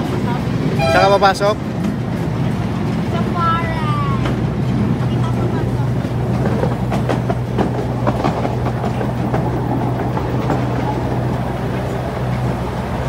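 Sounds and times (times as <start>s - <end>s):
miniature train engine rumble: 0.0s - 13.0s.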